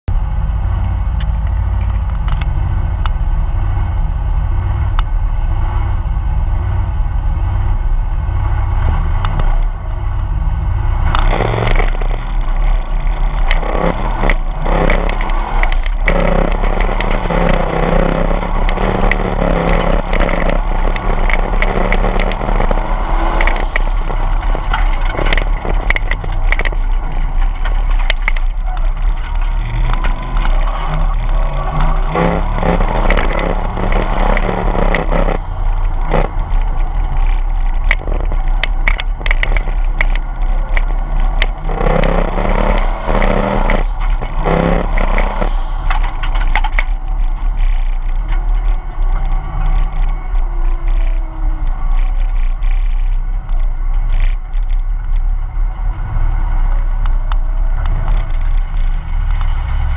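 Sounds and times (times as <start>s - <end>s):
car engine idling and accelerating: 0.0s - 59.9s
sharp clicks and knocks: 0.7s - 3.2s, 4.8s - 5.2s, 8.8s - 59.9s.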